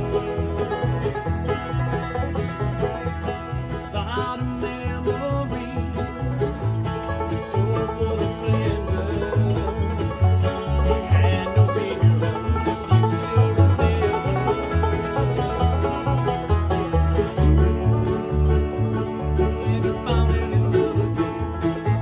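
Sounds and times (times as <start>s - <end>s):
bass line: 0.0s - 22.0s
bluegrass band playing: 0.0s - 22.0s
plucked strings: 0.0s - 22.0s.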